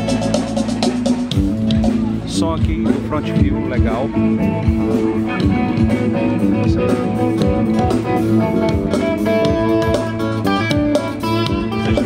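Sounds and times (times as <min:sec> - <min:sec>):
electric guitar: 0:00.0 - 0:12.0
live band over loudspeaker: 0:00.0 - 0:12.0.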